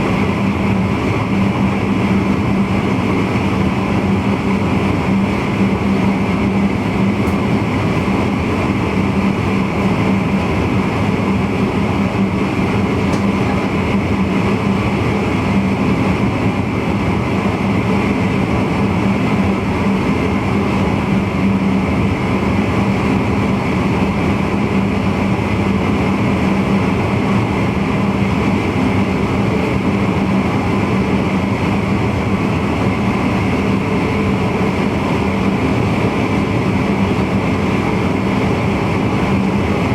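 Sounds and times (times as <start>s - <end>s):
steady low hum: 0.0s - 39.9s
train wheels on rail: 0.0s - 39.9s.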